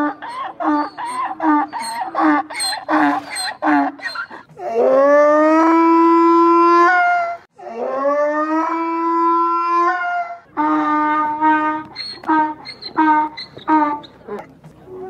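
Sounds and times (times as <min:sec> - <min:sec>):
donkey braying: 0:00.0 - 0:15.0.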